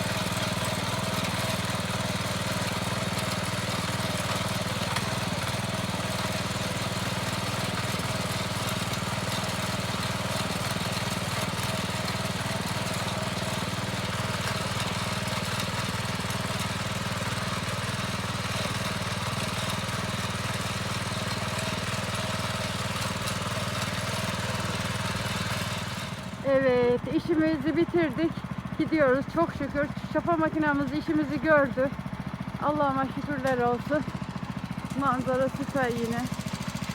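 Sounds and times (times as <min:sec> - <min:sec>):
motor tiller engine running: 0:00.0 - 0:36.9.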